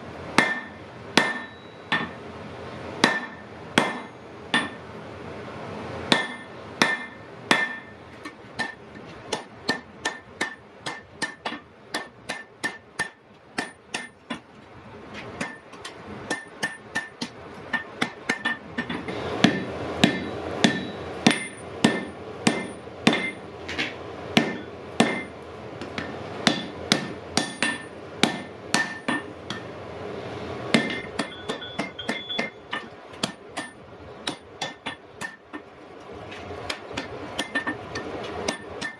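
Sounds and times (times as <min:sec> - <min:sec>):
hammer striking iron on anvil: 0:00.4 - 0:02.2, 0:03.0 - 0:04.8, 0:06.1 - 0:14.4, 0:15.4 - 0:29.7, 0:30.7 - 0:35.7, 0:36.7 - 0:38.9.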